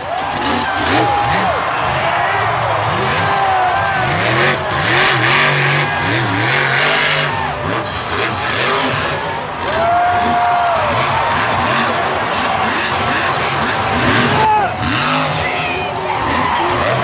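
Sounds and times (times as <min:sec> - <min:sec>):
arena crowd noise: 0:00.0 - 0:17.0
monster truck engines revving: 0:00.0 - 0:17.0.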